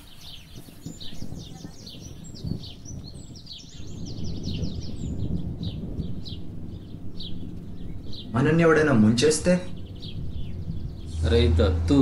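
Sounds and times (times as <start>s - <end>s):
small birds chirping: 0.0s - 12.0s
low rumble: 0.4s - 12.0s.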